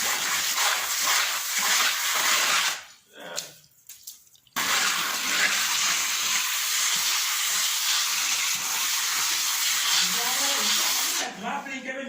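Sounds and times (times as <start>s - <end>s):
food sizzling in frying: 0.0s - 2.9s, 4.4s - 11.3s.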